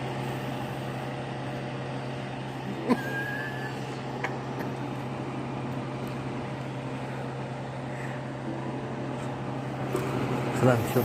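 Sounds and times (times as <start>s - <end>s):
refrigeration compressor humming: 0.0s - 11.0s.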